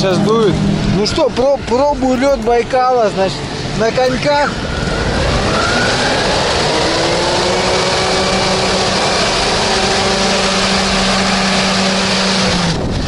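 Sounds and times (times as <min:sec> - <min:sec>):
hovercraft engine drone: 0:00.0 - 0:13.0
loud rush of air: 0:00.0 - 0:13.0.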